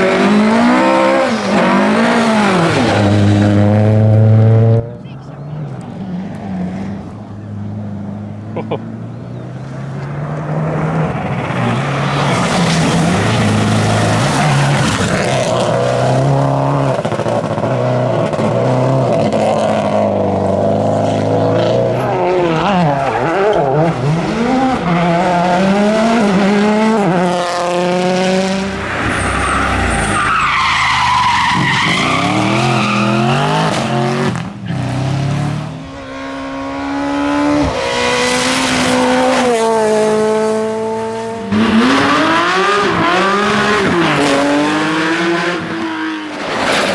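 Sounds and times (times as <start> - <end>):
rally car engines revving: 0.0 - 46.9
tyres skidding: 0.0 - 46.9.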